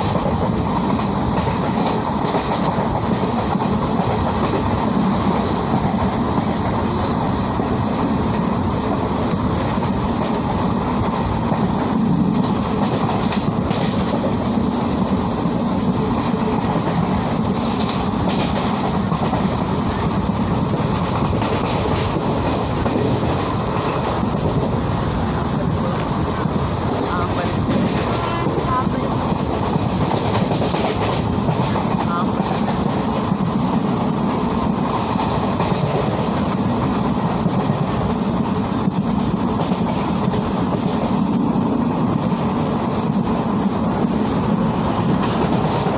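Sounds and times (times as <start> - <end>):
train wheels rumbling on track: 0.0 - 45.9.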